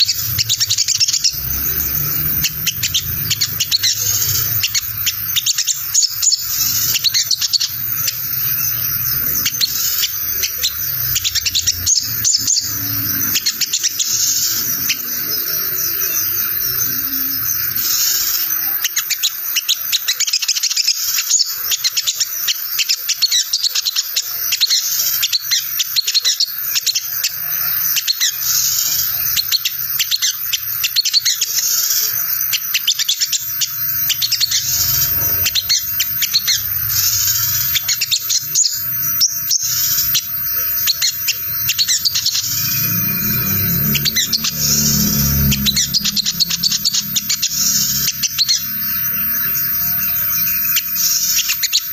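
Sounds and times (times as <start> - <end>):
sunbird twittering chatter: 0.0 - 51.9.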